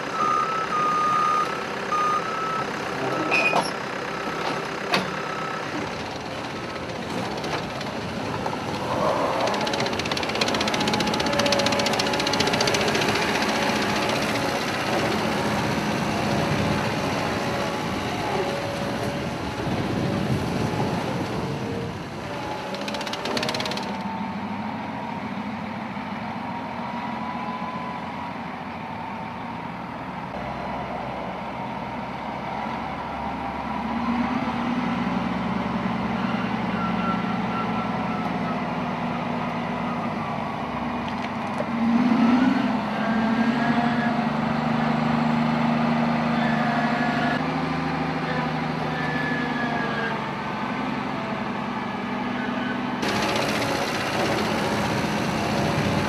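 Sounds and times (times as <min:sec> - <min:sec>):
construction machine engine drone: 0:00.0 - 0:56.0.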